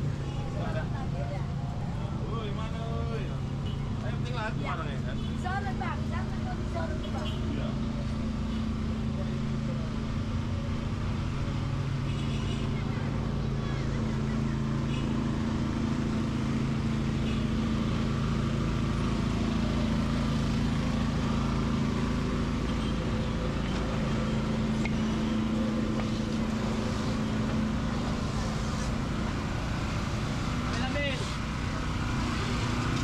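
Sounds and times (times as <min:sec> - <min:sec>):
street noise: 0:00.0 - 0:33.0
vehicle engine humming: 0:00.0 - 0:33.0.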